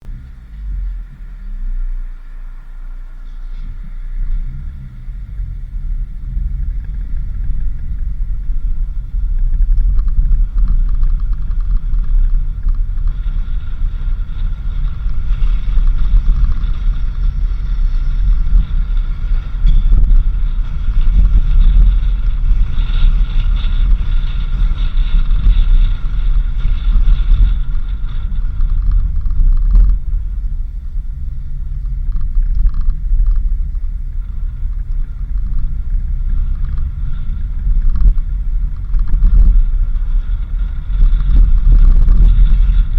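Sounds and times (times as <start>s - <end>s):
vehicle rumbling on dirt road: 0.0s - 42.9s.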